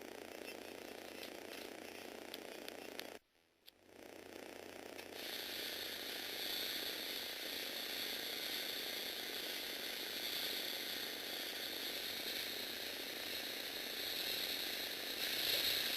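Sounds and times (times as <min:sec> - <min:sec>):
motor driving plastic gears: 0:00.0 - 0:03.2, 0:03.8 - 0:15.9.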